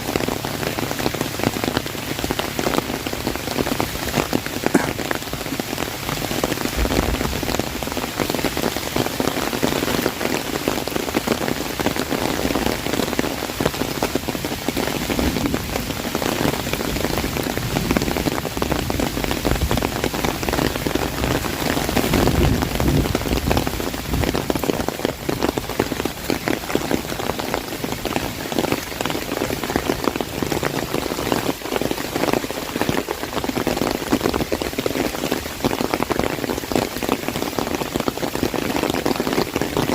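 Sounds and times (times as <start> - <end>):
heavy rain on an umbrella: 0.0 - 39.9
surrounding downpour: 0.0 - 39.9.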